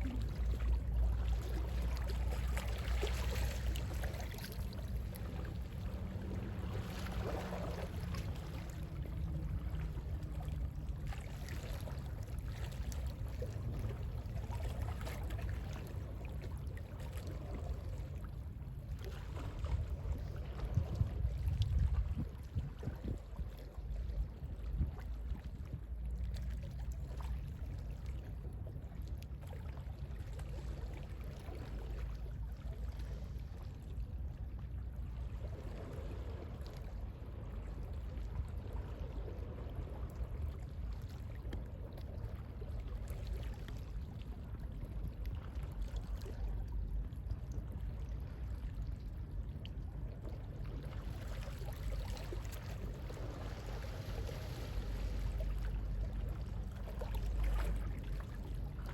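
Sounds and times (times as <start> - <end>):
gentle sea waves: 0.0 - 58.9
sea wind rumble: 0.0 - 58.9.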